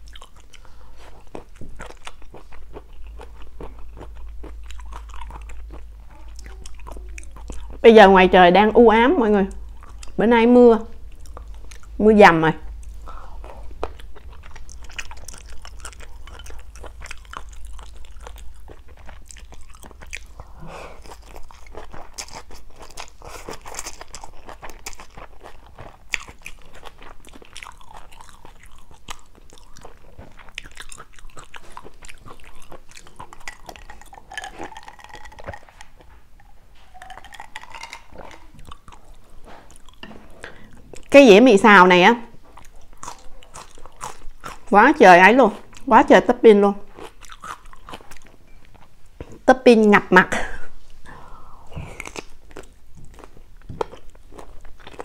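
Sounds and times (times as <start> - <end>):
wet chewing of noodles: 0.0 - 7.9, 9.5 - 10.2, 10.9 - 12.0, 12.6 - 41.2, 42.4 - 44.8, 46.8 - 49.5, 50.8 - 55.0
low steady hum: 0.0 - 55.0.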